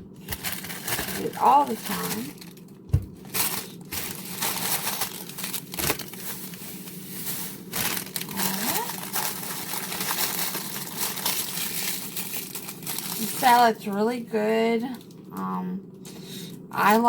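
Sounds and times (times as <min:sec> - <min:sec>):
vegetables crinkling and rustling: 0:00.2 - 0:14.2.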